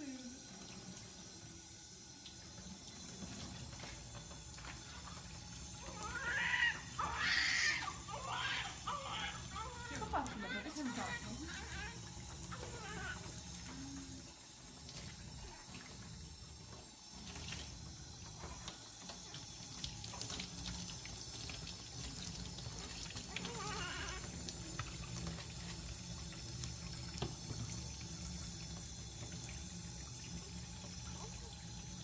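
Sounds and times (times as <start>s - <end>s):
bath water splashing: 0.0s - 32.0s.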